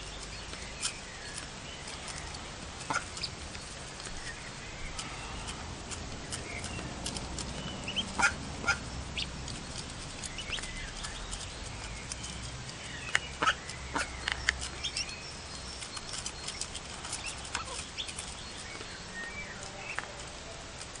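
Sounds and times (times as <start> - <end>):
bills pecking at a plate: 0.0 - 21.0
ducklings peeping: 0.0 - 21.0.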